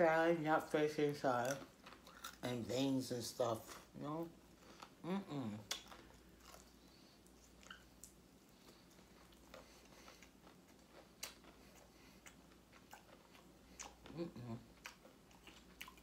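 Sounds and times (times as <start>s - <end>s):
faint chewing: 1.3s - 2.6s, 3.6s - 16.0s.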